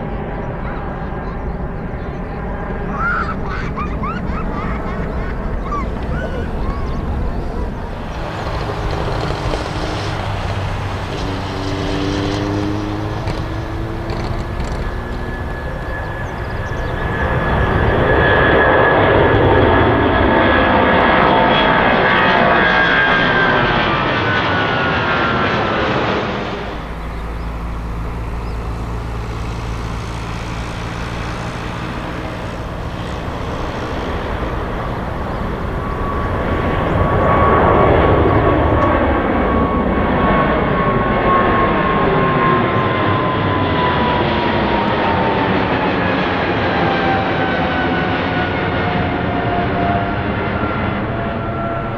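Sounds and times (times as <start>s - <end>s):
jet plane passing: 0.0s - 51.9s
low engine rumble: 0.0s - 51.9s.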